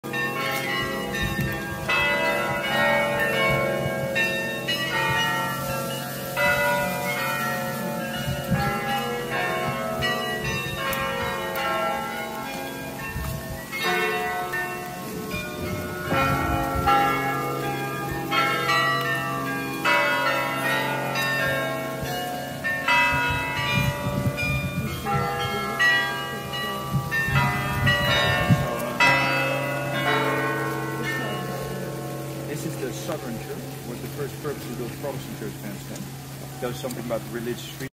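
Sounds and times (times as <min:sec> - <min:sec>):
carillon bells playing: 0:00.0 - 0:35.3.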